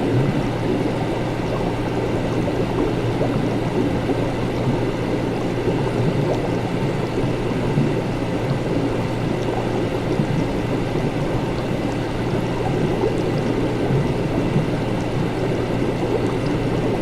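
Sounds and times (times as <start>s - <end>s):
liquid bubbling and gurgling: 0.0s - 17.0s
steady low hum: 0.0s - 17.0s.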